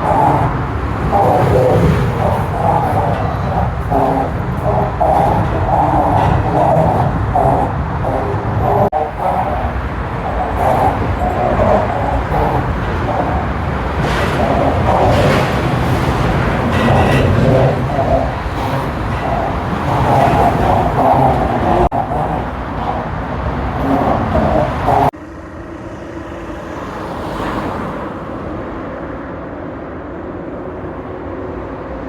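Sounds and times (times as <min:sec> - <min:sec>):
road traffic on a bridge: 0:00.0 - 0:32.0.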